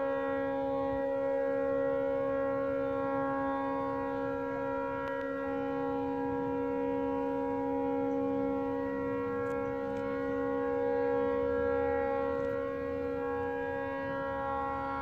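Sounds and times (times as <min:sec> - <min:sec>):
fog horn blaring: 0:00.0 - 0:15.0.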